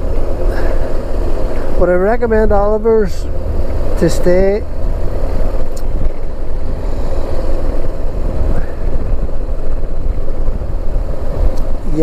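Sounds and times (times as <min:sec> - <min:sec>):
motorcycle engine rumble: 0:00.0 - 0:12.0
wind: 0:00.0 - 0:12.0.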